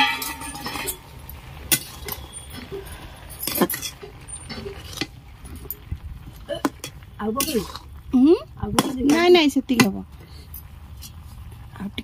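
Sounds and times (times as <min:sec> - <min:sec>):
metal utensils clinking against pot: 0:00.0 - 0:07.9, 0:08.6 - 0:11.2.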